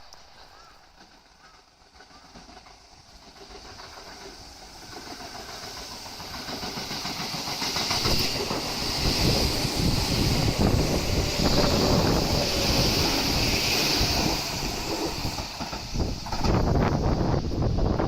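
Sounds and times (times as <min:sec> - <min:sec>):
electric train rumbling: 0:00.0 - 0:18.0
high wheel hiss: 0:00.0 - 0:18.0.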